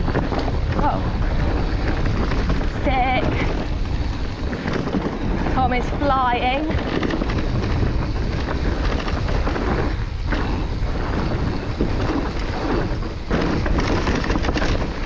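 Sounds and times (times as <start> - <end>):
bike rattling and knocking: 0.0 - 15.0
wind on microphone: 0.0 - 15.0.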